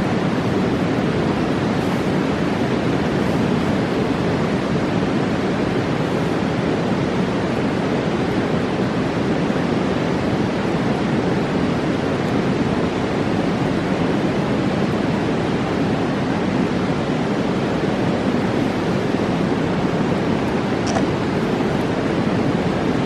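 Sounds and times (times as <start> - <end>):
fast-flowing river rushing: 0.0 - 23.0.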